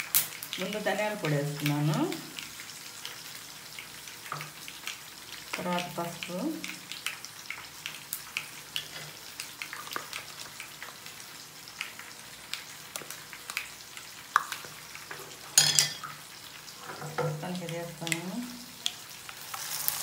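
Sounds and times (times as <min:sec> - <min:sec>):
oil crackling and popping: 0:00.0 - 0:20.0.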